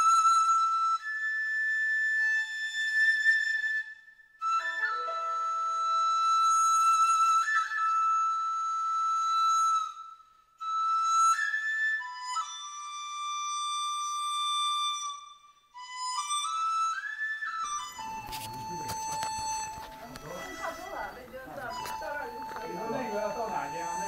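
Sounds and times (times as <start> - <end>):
solo flute melody: 0.0 - 24.0.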